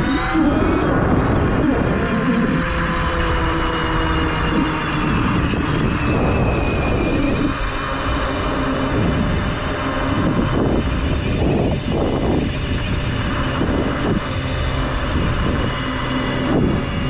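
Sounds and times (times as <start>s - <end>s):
electric motor whining: 0.0s - 17.0s
wind rushing over microphone: 0.0s - 17.0s.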